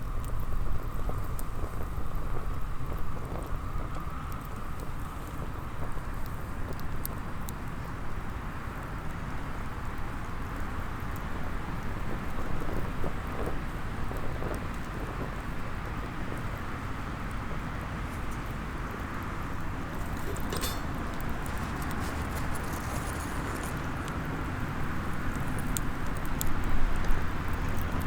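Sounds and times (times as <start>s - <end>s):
small wood fire crackling: 0.0s - 28.0s.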